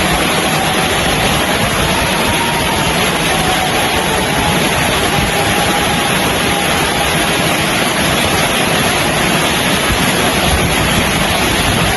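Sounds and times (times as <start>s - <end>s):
heavy rain falling: 0.0s - 11.9s.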